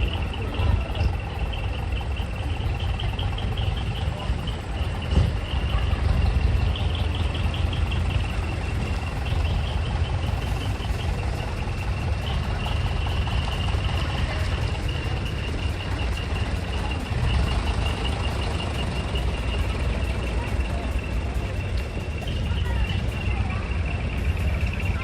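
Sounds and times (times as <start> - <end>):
diesel truck engine idling: 0.0 - 25.0
fast high-pitched pulsing: 0.0 - 25.0.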